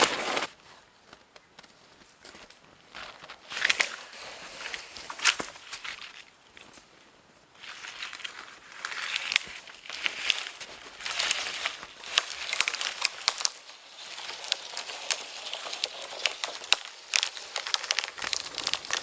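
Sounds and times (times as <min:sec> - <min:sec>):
kindling crackling and snapping: 0:00.0 - 0:07.0, 0:07.6 - 0:19.0.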